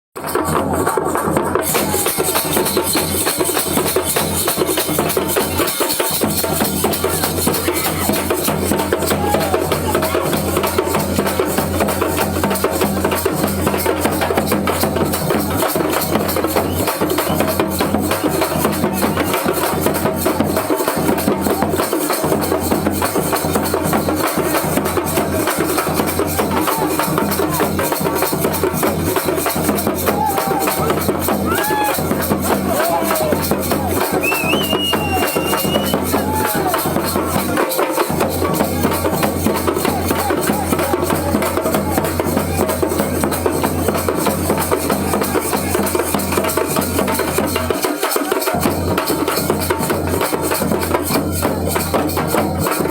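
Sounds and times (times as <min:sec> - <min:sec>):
frame drums beaten with sticks: 0:00.2 - 0:52.9.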